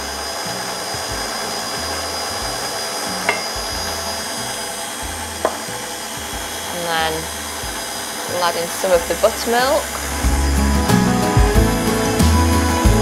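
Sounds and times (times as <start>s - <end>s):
stand mixer running: 0.0s - 13.0s.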